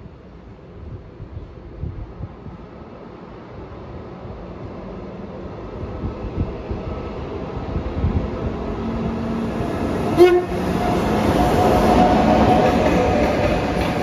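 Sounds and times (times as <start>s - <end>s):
train rumble and wheel noise: 0.0s - 14.0s.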